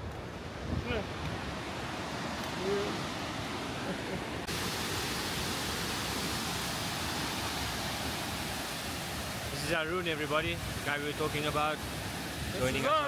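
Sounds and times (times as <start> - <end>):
waterfall roaring: 0.6 - 13.0.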